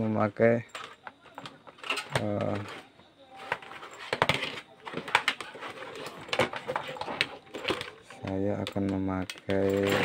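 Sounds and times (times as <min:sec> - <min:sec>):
cables and plug rattling: 0:00.6 - 0:10.0.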